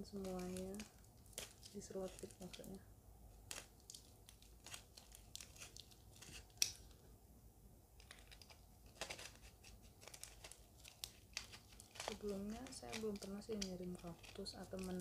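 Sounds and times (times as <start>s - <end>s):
wrapping crinkling: 0.0s - 7.0s, 8.0s - 15.0s.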